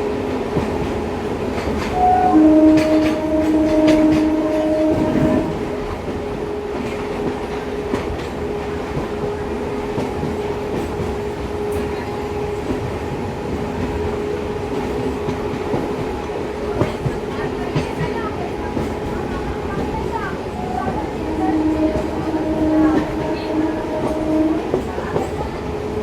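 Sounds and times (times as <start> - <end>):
train rumbling along track: 0.0 - 26.0.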